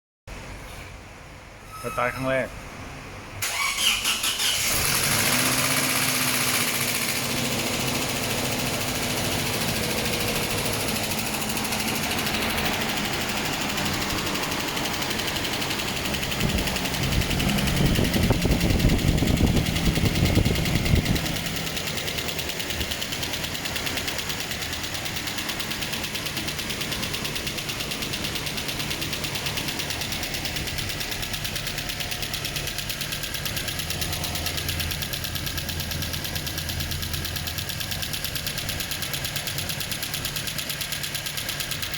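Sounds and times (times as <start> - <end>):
car engine idling: 4.6 - 41.9.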